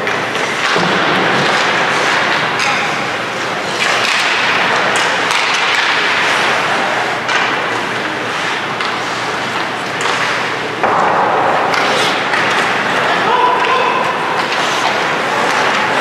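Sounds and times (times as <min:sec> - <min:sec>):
skate blades scraping ice: 0:00.1 - 0:10.6, 0:11.7 - 0:13.2, 0:14.0 - 0:16.0.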